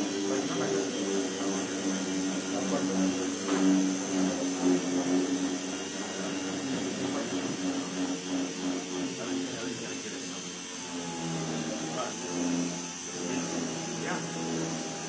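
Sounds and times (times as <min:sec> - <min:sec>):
air sander whirring: 0:00.0 - 0:15.0.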